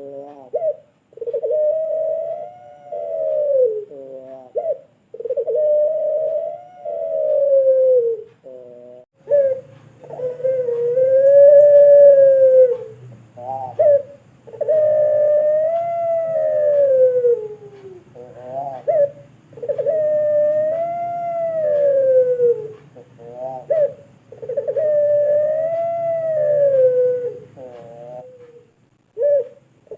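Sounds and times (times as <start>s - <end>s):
dove cooing: 0.0s - 29.9s.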